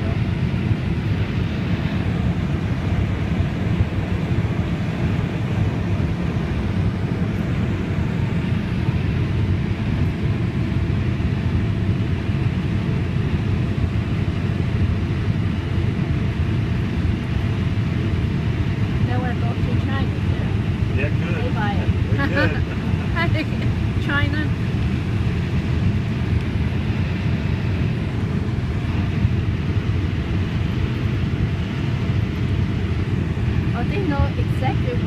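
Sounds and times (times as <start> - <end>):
combine harvester engine drone: 0.0 - 35.0.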